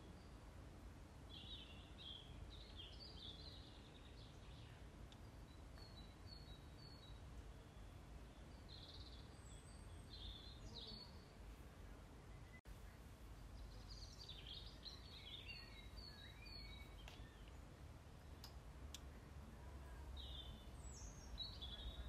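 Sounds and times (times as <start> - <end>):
faint bird chirps: 1.3 - 22.0.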